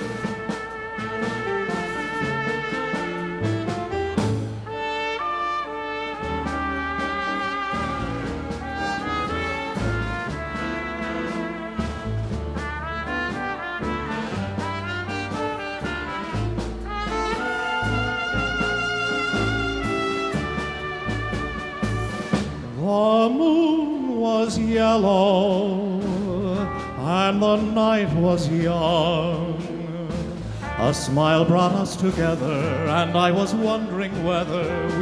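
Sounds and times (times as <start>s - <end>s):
trumpets and trombones melody: 0.0s - 35.0s.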